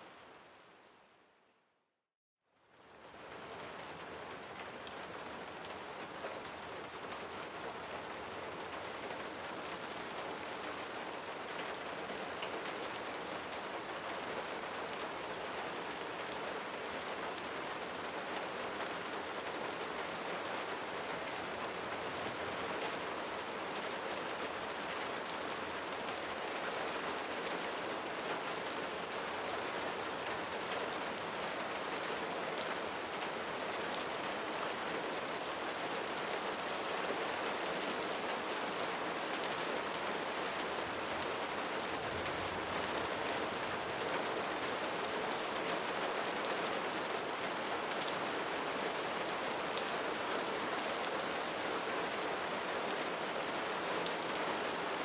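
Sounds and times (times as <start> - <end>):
rain pattering on leaves: 2.7 - 55.0.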